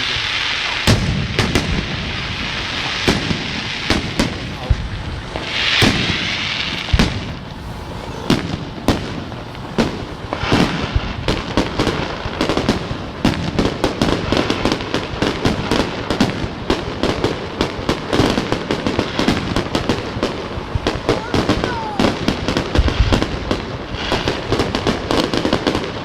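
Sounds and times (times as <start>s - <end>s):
fireworks bangs: 0.0s - 26.0s
hissing firework burst: 0.0s - 26.0s
rapid crackling fireworks: 0.0s - 26.0s.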